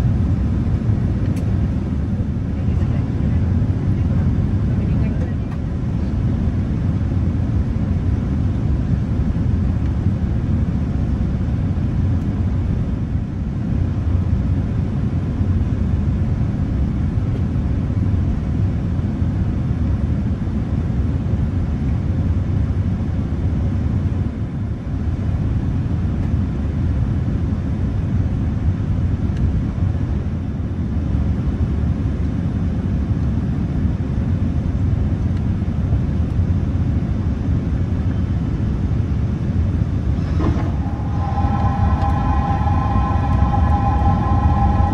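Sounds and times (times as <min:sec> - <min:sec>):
airliner cabin engine rumble: 0:00.0 - 0:32.4, 0:35.3 - 0:44.9.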